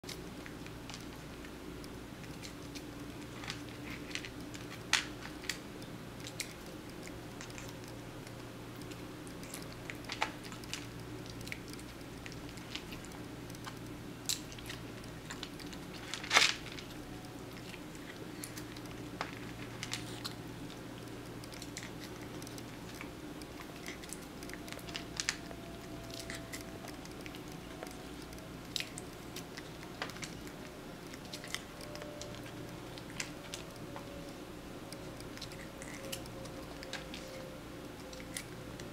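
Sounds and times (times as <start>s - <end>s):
kitten chewing treats: 0.0s - 38.9s
steady low hum: 0.0s - 38.9s.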